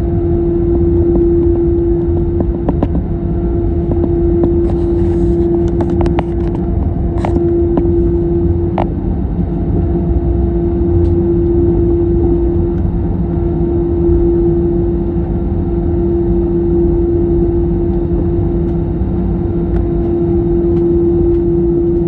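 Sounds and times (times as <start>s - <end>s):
jet engine rumble in cabin: 0.0s - 22.0s.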